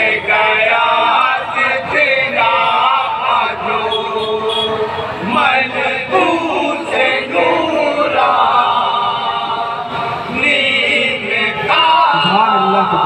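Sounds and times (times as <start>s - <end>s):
male chorus chanting: 0.0s - 13.0s.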